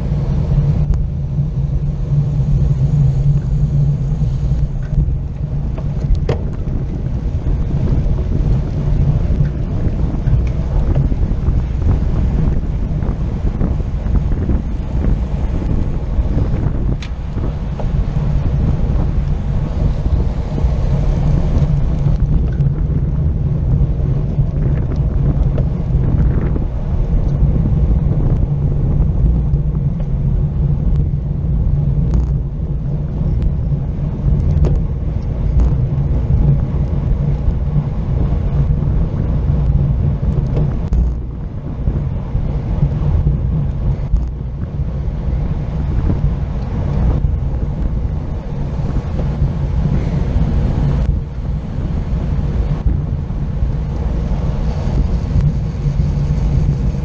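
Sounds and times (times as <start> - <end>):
wind rumbling over microphone: 0.0 - 57.0.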